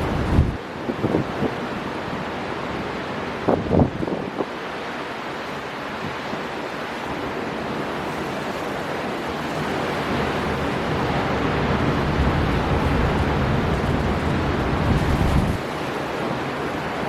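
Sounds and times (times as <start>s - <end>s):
sea waves breaking: 0.0s - 17.0s
storm wind: 0.0s - 17.0s.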